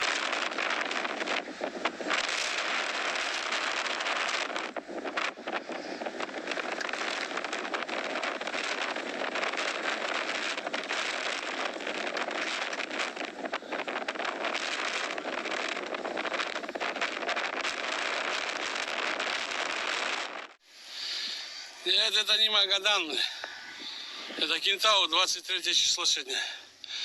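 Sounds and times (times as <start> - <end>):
blizzard wind buffeting microphone: 0.0 - 25.3.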